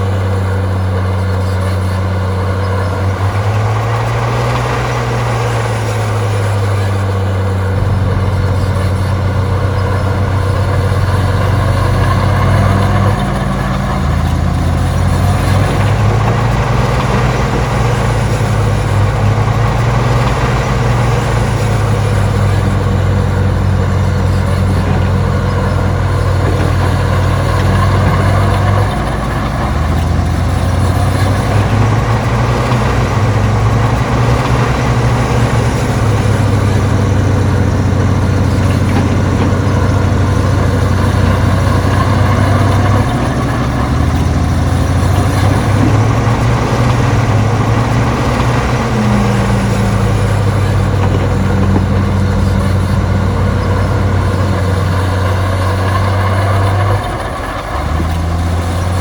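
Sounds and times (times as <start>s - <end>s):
diesel engine of heavy machine: 0.0s - 59.0s.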